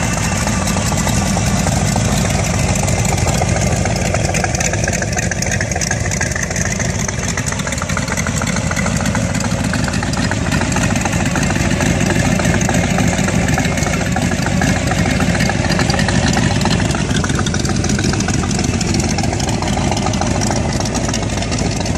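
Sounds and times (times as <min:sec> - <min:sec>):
car engine idling loudly: 0:00.0 - 0:21.9.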